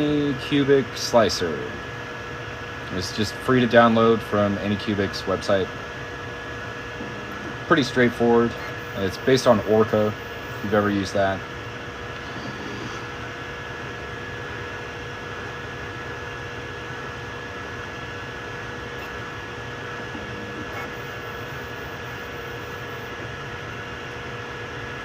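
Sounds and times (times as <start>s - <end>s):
constant whine: 0.0s - 25.0s
fan hiss: 0.0s - 25.0s.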